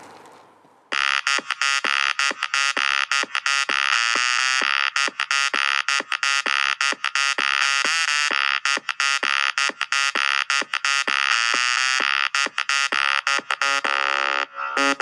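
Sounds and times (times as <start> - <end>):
buzzy synth lead music: 0.9 - 15.0.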